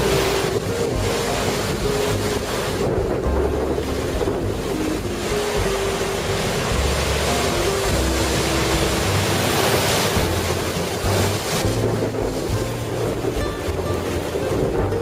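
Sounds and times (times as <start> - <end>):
surf crashing against rocks: 0.0 - 15.0
wind buffeting microphone: 0.0 - 15.0.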